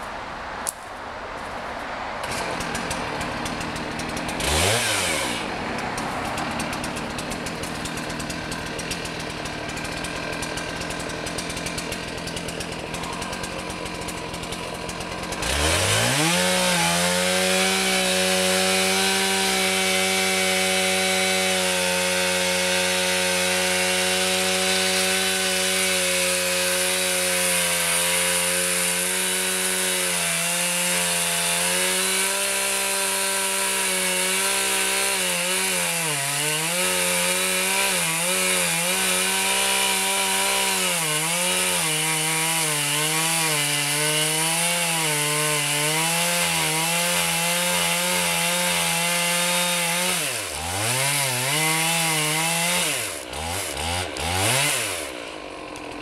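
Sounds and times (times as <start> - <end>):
chainsaw cutting through tree: 1.8 - 56.0.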